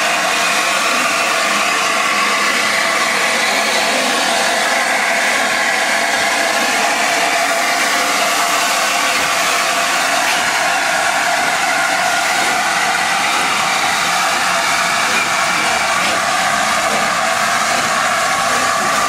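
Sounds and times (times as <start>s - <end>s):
loud hiss of escaping steam: 0.0s - 19.0s.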